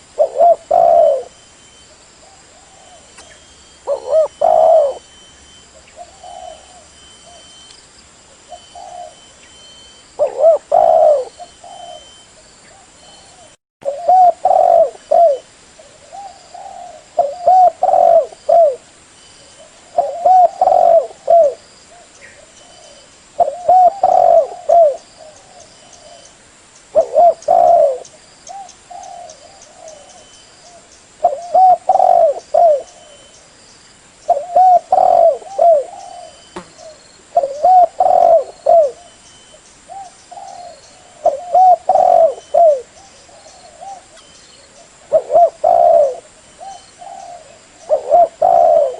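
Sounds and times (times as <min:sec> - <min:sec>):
dove cooing: 0:00.0 - 0:01.4, 0:02.2 - 0:07.6, 0:08.5 - 0:09.3, 0:10.2 - 0:18.8, 0:19.6 - 0:26.3, 0:26.9 - 0:33.3, 0:34.3 - 0:39.2, 0:39.9 - 0:48.9.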